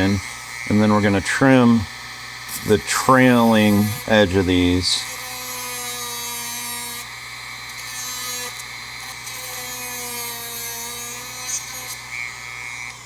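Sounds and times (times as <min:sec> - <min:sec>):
rotary tool sanding wood: 0:00.0 - 0:13.0.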